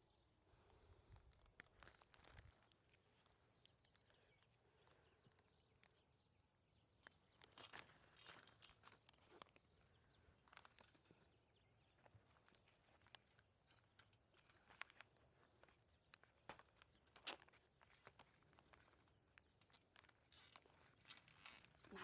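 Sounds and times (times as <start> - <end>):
faint crackles and clicks: 0.6 - 22.0.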